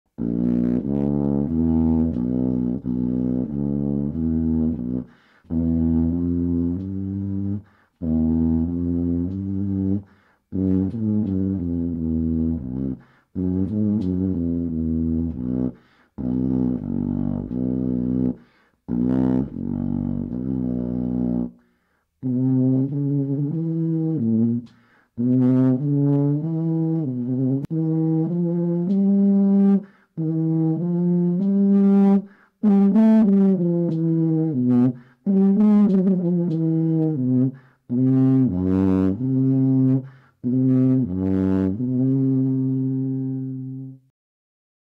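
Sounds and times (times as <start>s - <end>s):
tuba-like brass horn playing: 0.1s - 21.6s, 22.2s - 44.1s.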